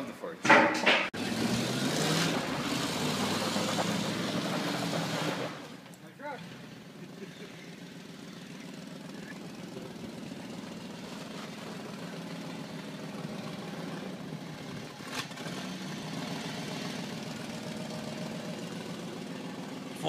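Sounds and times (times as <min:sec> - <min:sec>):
engine running at low speed: 0:01.2 - 0:20.0.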